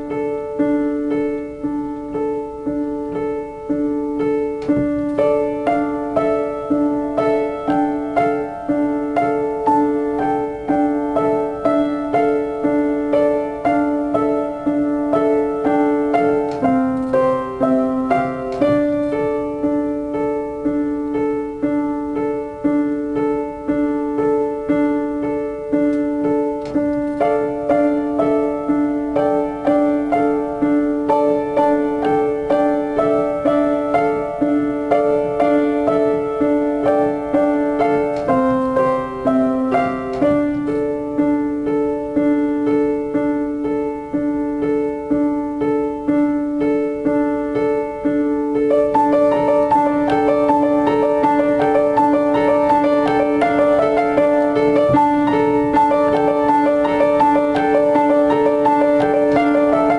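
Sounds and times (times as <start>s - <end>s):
solo piano piece: 0.0s - 59.9s.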